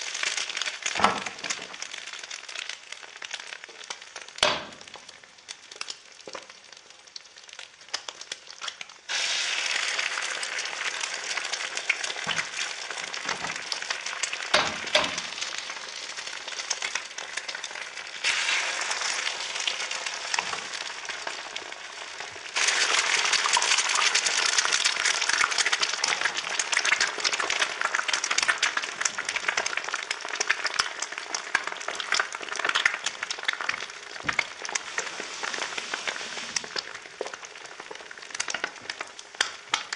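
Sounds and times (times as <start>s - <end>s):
egg sizzling in hot oil: 0.0s - 39.9s.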